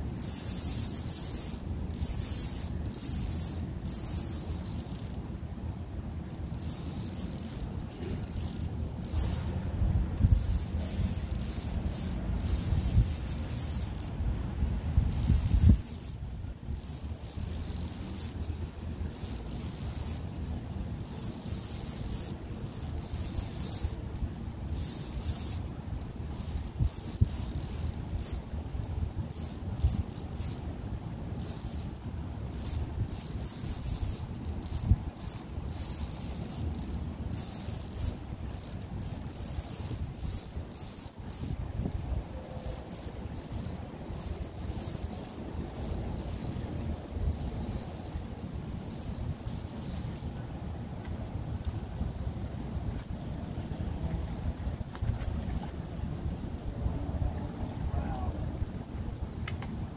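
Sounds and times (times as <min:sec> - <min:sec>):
fishing reel gears clicking: 0:00.2 - 0:05.2, 0:06.3 - 0:14.4, 0:15.0 - 0:50.3.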